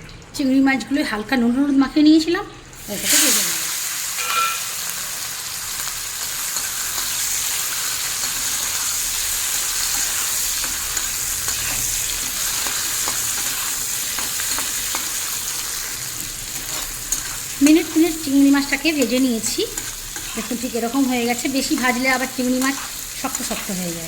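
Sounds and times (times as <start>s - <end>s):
prawns sizzling in oil: 2.8s - 24.0s.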